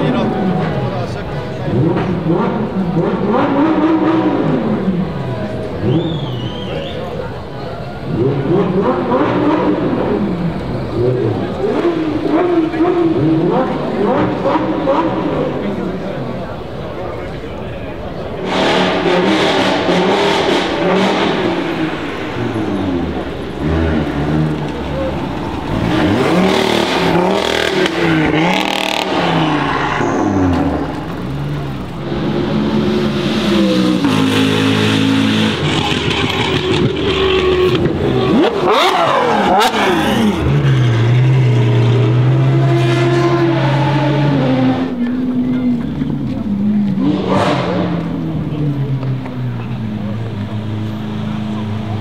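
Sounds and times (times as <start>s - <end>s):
car engine revving: 0.0s - 6.6s, 7.3s - 52.0s.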